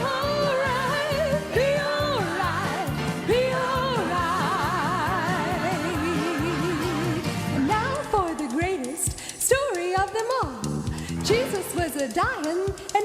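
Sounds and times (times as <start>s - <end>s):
gospel song with vibrato vocals: 0.0s - 12.0s.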